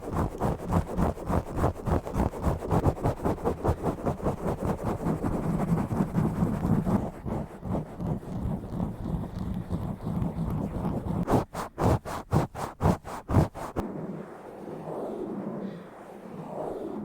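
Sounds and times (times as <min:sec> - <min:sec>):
scratching on microphone: 0:00.0 - 0:17.0.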